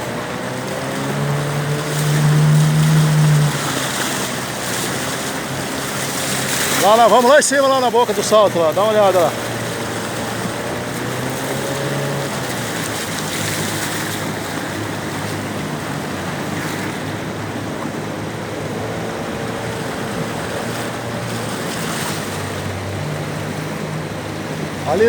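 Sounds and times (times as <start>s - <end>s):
boat motor running: 0.0s - 25.0s
river rapids rushing: 0.0s - 25.0s.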